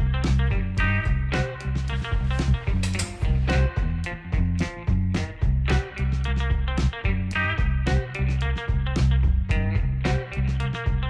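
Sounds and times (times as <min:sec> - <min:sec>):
upbeat swing music: 0:00.0 - 0:11.0.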